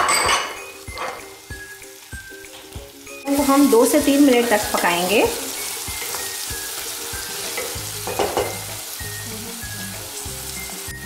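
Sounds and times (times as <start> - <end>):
vegetables sizzling in oil: 0.5 - 11.0.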